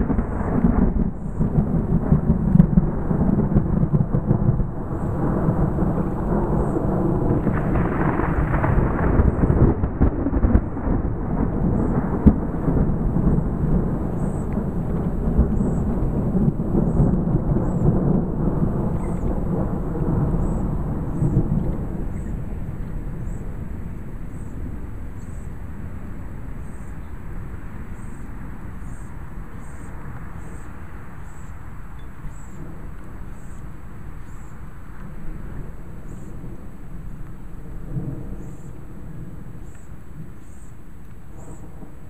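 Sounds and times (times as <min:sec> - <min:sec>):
rolling thunder: 0:00.0 - 0:42.0.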